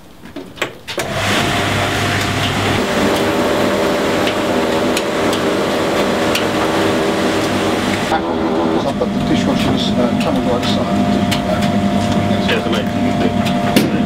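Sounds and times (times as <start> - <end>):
tumble dryer motor humming: 1.0 - 14.0.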